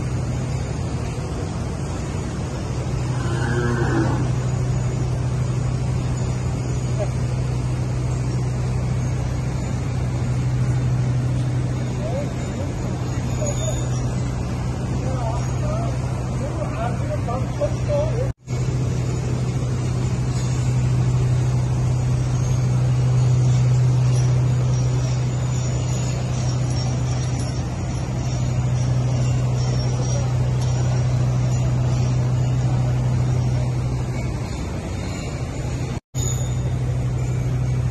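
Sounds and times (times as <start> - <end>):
constant background noise: 0.0 - 37.9
low mechanical hum: 0.0 - 37.9.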